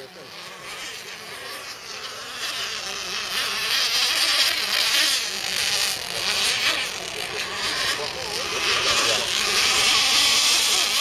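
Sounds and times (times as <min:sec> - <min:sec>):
rc boat engines high buzz: 0:00.0 - 0:11.0.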